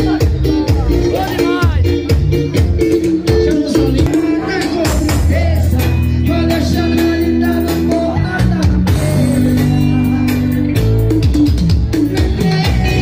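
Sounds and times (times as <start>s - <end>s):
loud music with singing: 0.0s - 13.0s.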